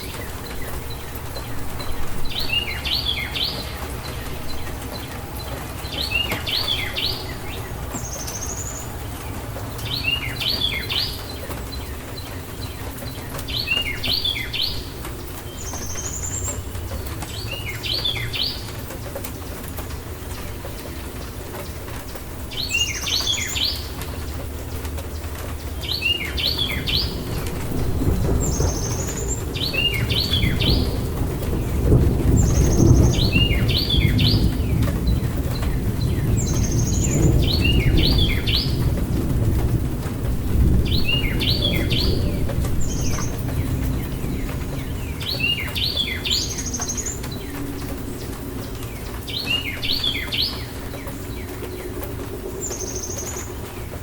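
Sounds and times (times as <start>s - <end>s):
songbird chirping: 0.0s - 54.0s
steady rain: 0.0s - 54.0s
thunder rumbling: 0.0s - 54.0s.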